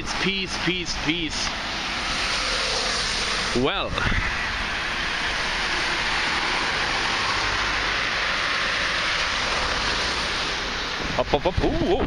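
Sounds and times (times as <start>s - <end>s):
tyres hissing on wet asphalt: 0.0s - 11.7s.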